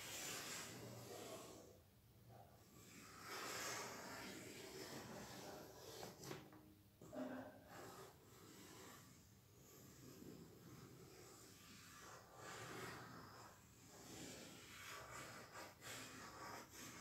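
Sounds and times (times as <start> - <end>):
chalk scraping on chalkboard: 0.0 - 1.7, 2.7 - 6.4, 7.7 - 17.0.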